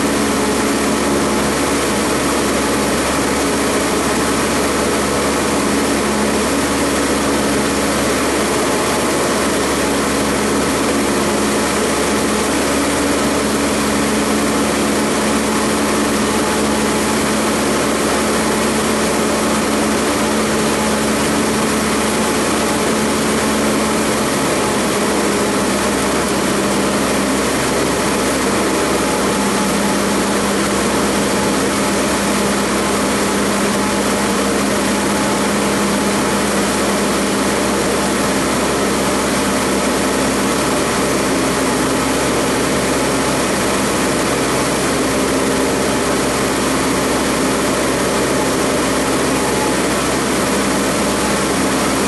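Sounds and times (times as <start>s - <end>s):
light aircraft engine drone: 0.0s - 52.0s.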